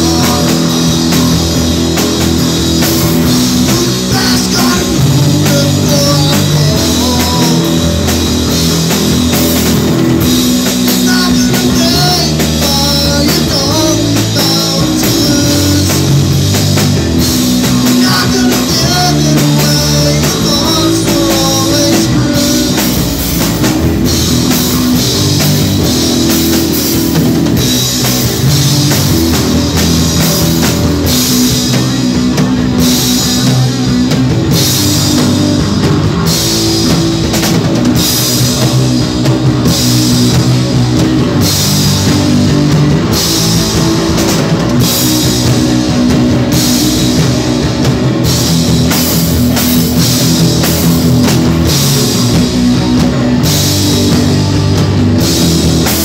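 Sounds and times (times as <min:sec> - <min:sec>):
bass line: 0:00.0 - 0:56.0
drum kit: 0:00.0 - 0:56.0
electric guitars: 0:00.0 - 0:56.0.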